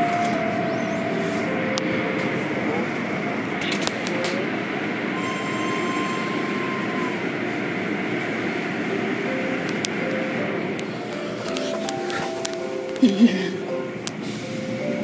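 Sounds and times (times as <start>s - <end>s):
faint machine whine: 0.0s - 15.0s
machinery rumble: 0.0s - 15.0s.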